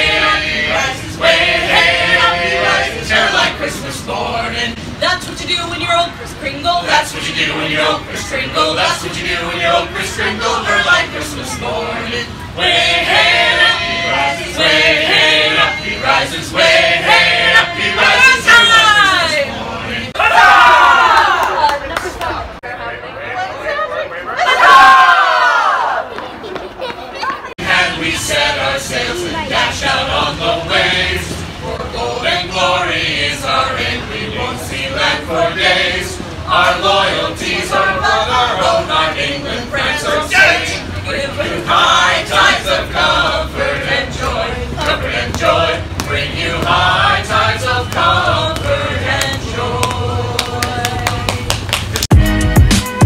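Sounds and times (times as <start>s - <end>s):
group singing a carol: 0.0s - 5.0s, 6.4s - 20.2s, 27.6s - 51.7s.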